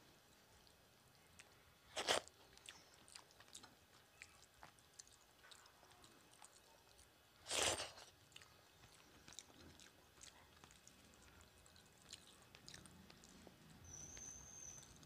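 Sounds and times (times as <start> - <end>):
chewing food: 0.6 - 15.0.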